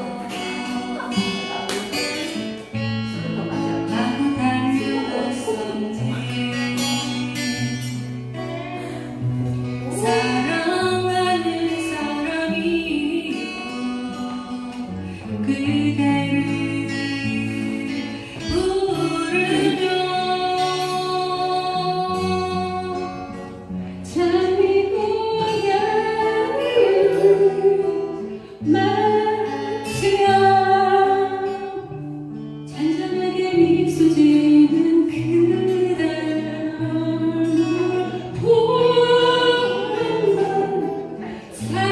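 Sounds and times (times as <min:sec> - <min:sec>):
acoustic guitar: 0:00.0 - 0:41.9
woman singing: 0:00.0 - 0:41.9.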